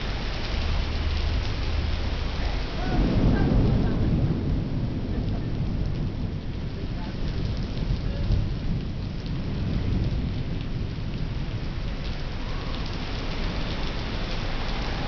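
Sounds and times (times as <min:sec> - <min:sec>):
heavy low rumble: 0:00.0 - 0:15.0
heavy rain pounding street: 0:00.0 - 0:15.0.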